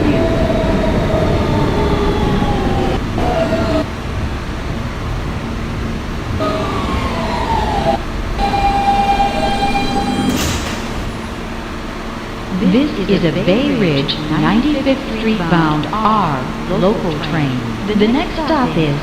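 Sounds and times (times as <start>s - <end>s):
subway car motors whining: 0.0s - 19.0s.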